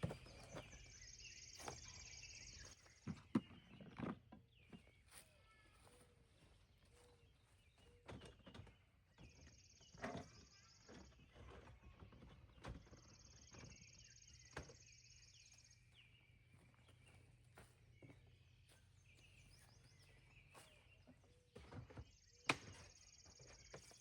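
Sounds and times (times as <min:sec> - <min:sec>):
faint chirps: 0:00.0 - 0:03.8, 0:04.7 - 0:24.0.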